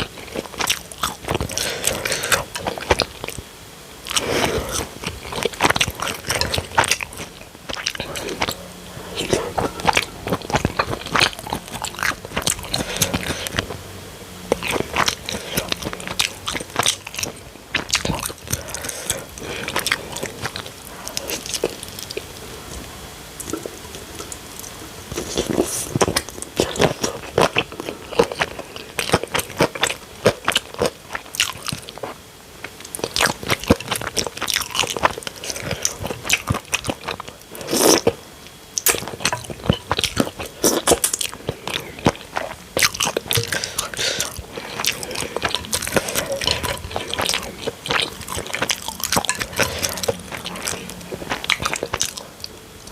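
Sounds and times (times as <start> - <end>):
crunching and chewing: 0.0 - 52.9.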